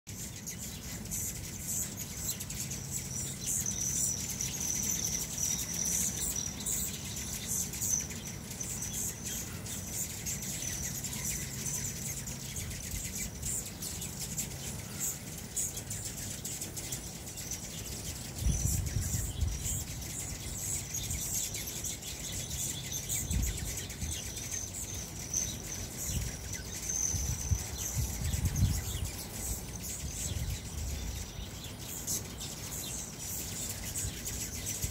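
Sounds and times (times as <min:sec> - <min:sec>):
hummingbirds chirping: 0:00.1 - 0:34.9.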